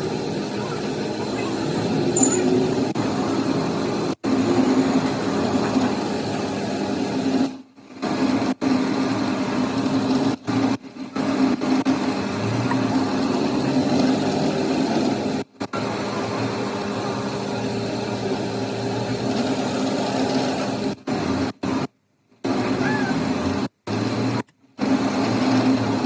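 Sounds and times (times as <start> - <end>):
machine humming: 0.0 - 7.4, 8.0 - 21.6.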